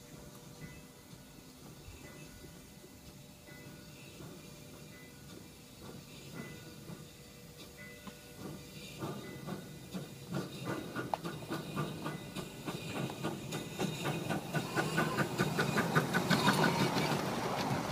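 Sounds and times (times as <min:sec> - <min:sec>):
steam hissing: 0:00.0 - 0:17.9
steam locomotive chuffing: 0:00.0 - 0:17.9.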